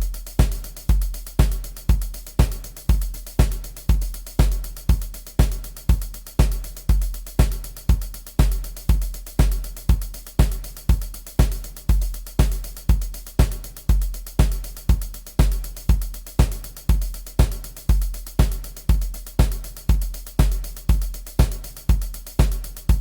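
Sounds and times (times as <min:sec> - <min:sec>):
drum kit playing a beat: 0:00.0 - 0:23.0.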